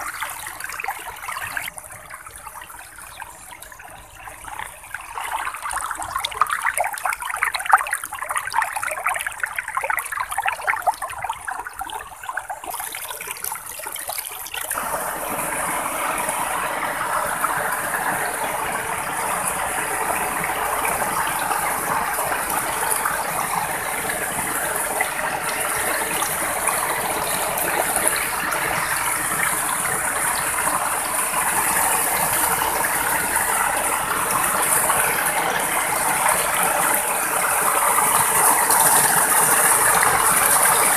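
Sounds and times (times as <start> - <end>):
water pouring down cascade: 0.0 - 40.9
water trickling and gurgling: 0.0 - 40.9.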